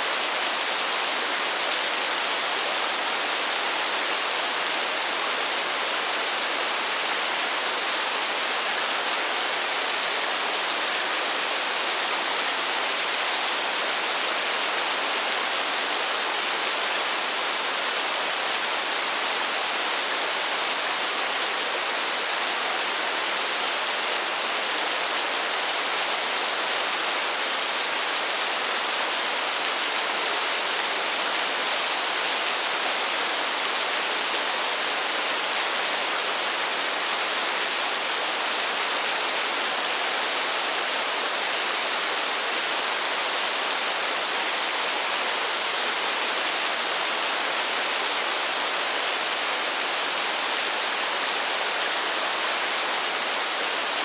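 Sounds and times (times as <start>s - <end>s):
heavy rain in forest: 0.0s - 54.0s.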